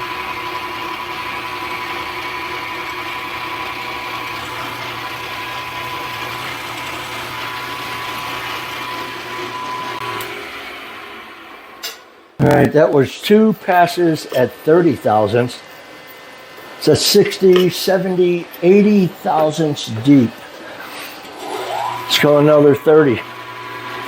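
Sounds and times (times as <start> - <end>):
machine tool motor hum and whine: 0.0 - 24.0.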